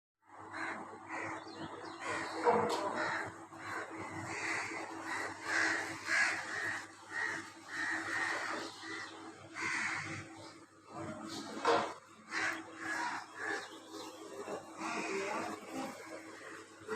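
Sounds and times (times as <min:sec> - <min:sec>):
birds giving harsh caw-like calls: 0:00.3 - 0:16.9.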